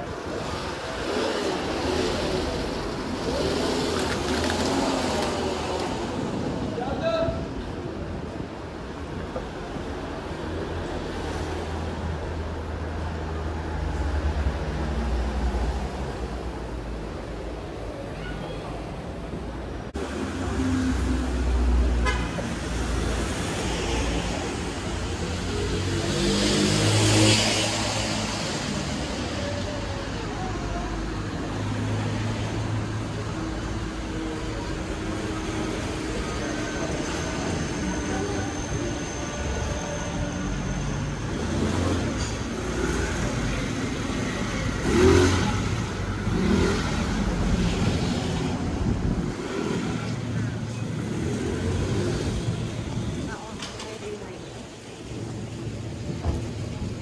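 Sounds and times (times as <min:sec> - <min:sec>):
cars and scooters passing: 0:00.0 - 0:57.0
tyres on asphalt: 0:00.0 - 0:57.0.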